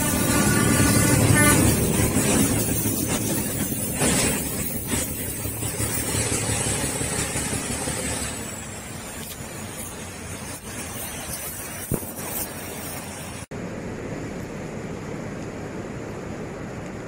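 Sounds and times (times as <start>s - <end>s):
diesel locomotive passing: 0.0s - 17.0s.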